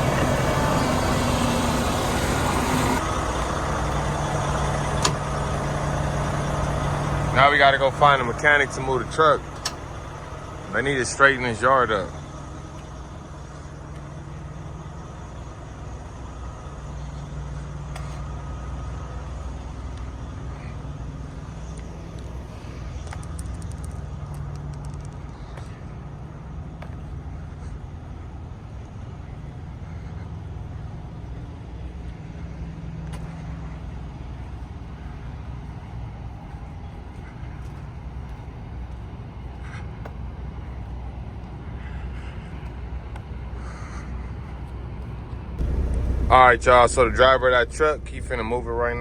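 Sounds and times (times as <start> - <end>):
diesel truck engine idling: 0.0 - 49.0.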